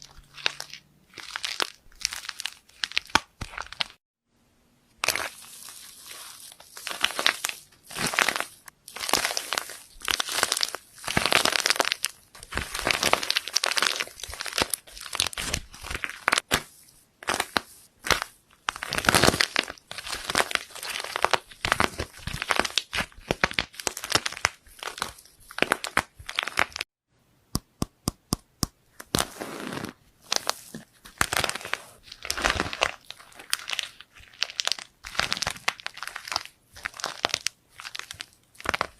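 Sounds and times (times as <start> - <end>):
slime squishing: 0.0 - 4.0, 5.0 - 26.8, 29.0 - 38.9.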